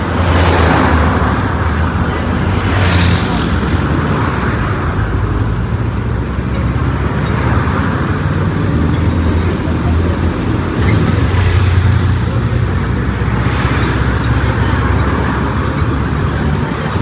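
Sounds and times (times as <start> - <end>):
bus engine droning: 0.0 - 17.0
road noise: 0.0 - 17.0.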